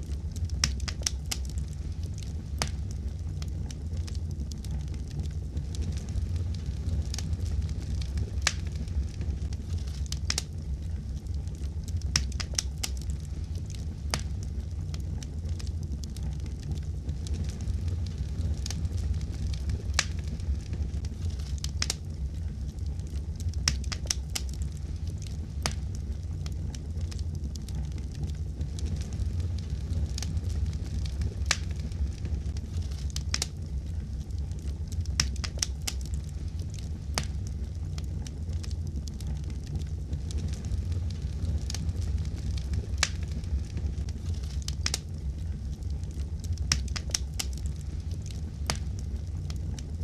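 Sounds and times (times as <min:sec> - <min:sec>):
fire crackling and popping: 0:00.0 - 0:50.0
low rumble of burning fire: 0:00.0 - 0:50.0.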